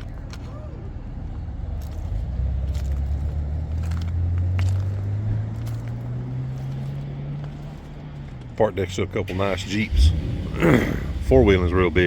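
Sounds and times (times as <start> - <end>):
car engine running: 1.3 - 12.0.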